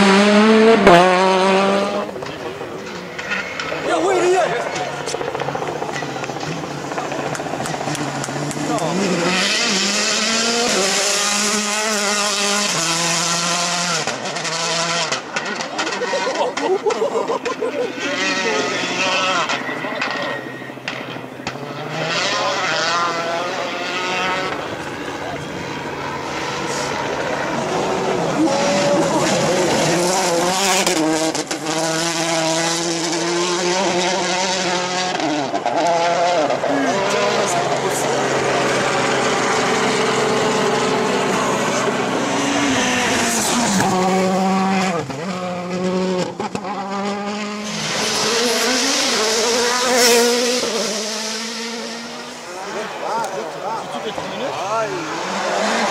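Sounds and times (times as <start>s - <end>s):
rally car engine revving hard: 0.0s - 55.9s.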